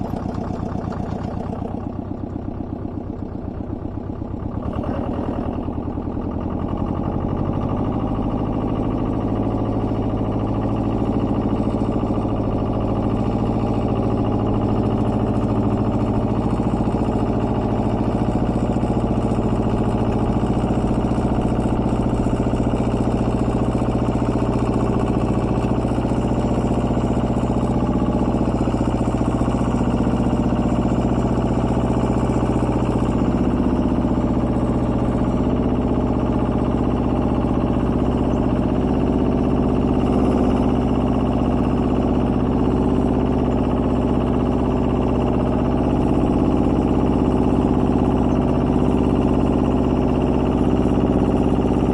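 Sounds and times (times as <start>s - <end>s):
small tractor engine running: 0.0s - 51.9s.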